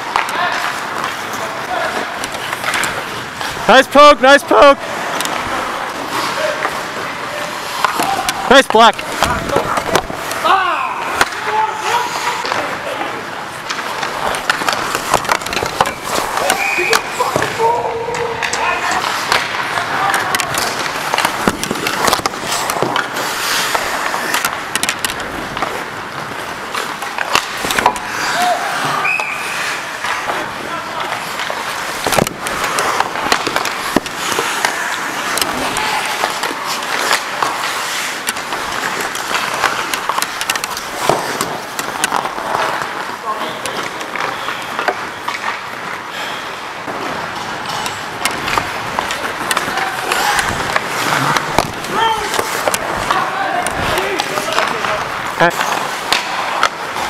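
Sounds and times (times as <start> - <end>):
skates scraping on ice: 0.0 - 57.0
sticks and puck clacking: 0.0 - 57.0.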